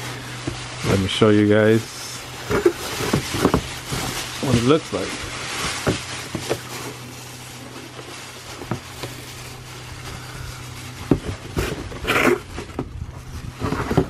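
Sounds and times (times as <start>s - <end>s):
hands rummaging in cardboard box: 0.0s - 14.0s
plastic bag rustling: 0.0s - 14.0s
steady low hum: 0.0s - 14.0s.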